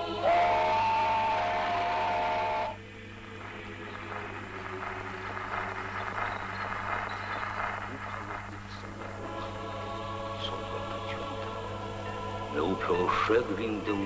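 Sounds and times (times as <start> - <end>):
crackling hiss: 0.0 - 14.0.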